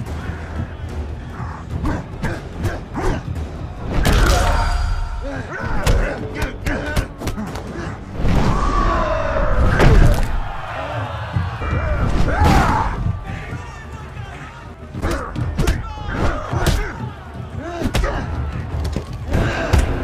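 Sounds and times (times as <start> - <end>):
men shouting and grunting: 0.0 - 20.0.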